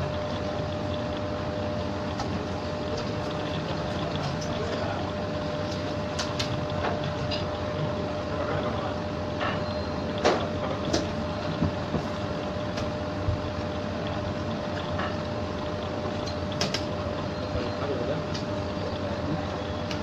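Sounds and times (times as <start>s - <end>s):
machine hum with faint tone: 0.0s - 20.0s.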